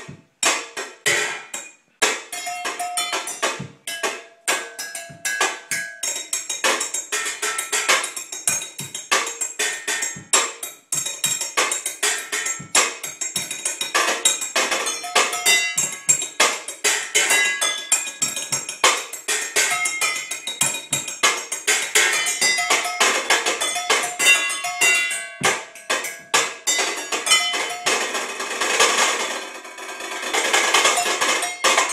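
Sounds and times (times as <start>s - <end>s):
knives drumming on pots and bowls: 0.0s - 31.9s.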